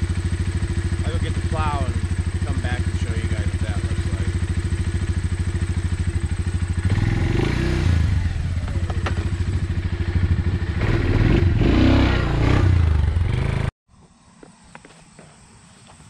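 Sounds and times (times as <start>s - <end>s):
quad bike engine idling and revving: 0.0s - 13.7s.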